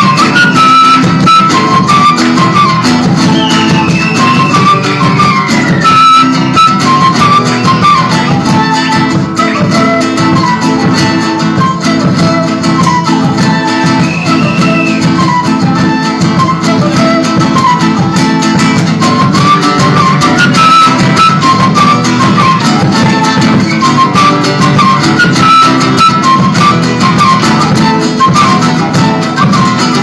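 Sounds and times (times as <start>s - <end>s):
flute melody with sliding notes: 0.0s - 30.0s
strummed acoustic guitars: 0.0s - 30.0s.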